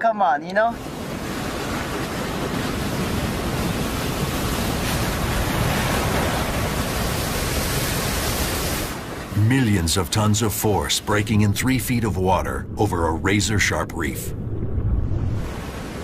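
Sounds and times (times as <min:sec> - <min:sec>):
surf rushing: 0:00.6 - 0:16.0.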